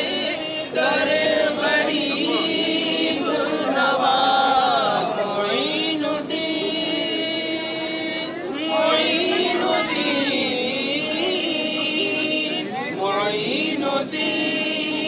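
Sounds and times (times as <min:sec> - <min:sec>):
men singing devotional chant: 0:00.0 - 0:15.0.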